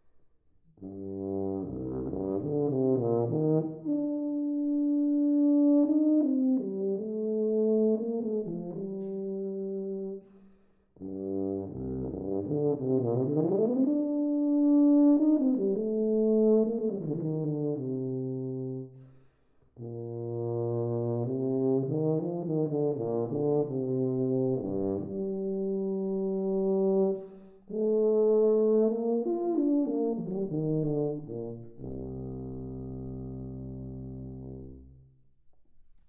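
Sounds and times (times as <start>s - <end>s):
tuba playing: 0.7s - 35.1s.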